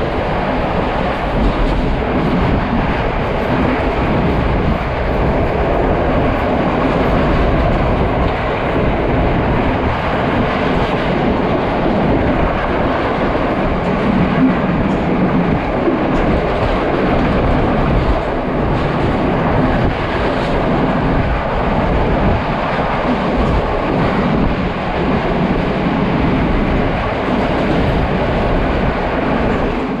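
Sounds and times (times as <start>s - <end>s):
train knocks and rattles: 0.0s - 30.0s
train wheels rushing on rails: 0.0s - 30.0s.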